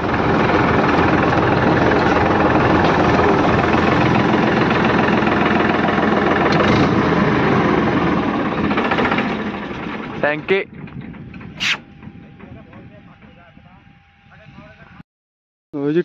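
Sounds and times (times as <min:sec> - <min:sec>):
tractor diesel engine running: 0:00.0 - 0:13.3.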